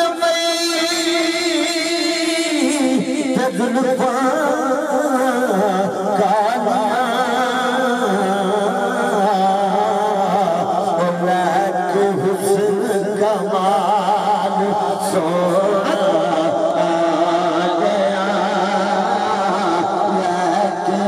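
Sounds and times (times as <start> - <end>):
man singing through loudspeakers: 0.0 - 21.0.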